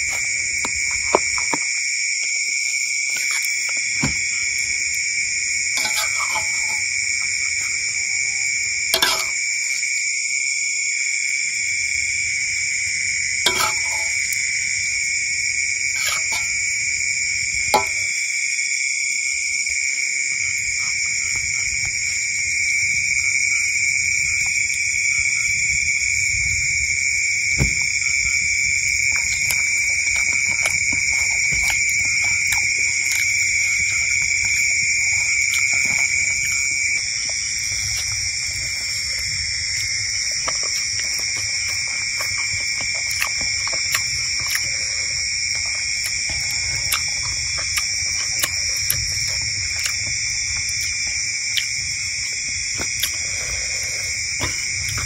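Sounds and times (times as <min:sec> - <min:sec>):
night insects chirring: 0:00.0 - 0:55.0.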